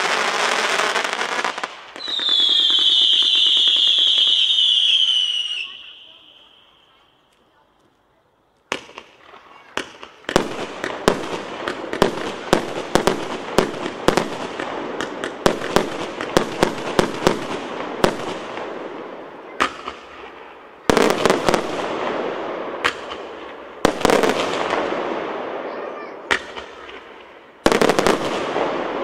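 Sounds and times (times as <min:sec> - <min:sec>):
fireworks hiss and crackle: 0:00.0 - 0:29.0
fireworks reports: 0:00.0 - 0:29.0.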